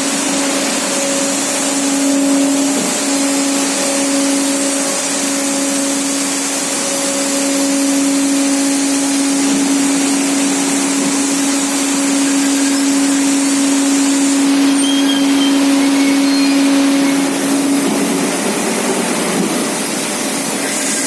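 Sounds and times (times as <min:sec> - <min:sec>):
machine tool humming and hissing: 0:00.0 - 0:21.0.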